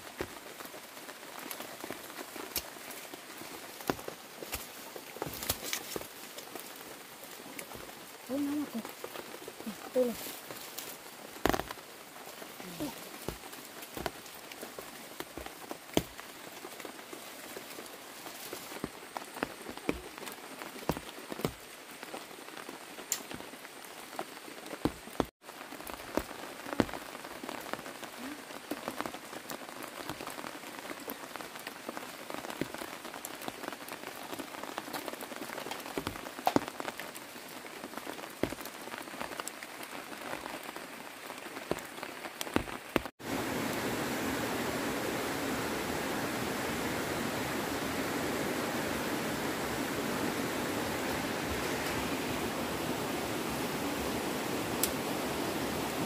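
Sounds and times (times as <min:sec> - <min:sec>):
sharp ticks of raindrops: 0:00.0 - 0:44.2, 0:51.6 - 0:56.0
steady rain falling: 0:00.0 - 0:56.0.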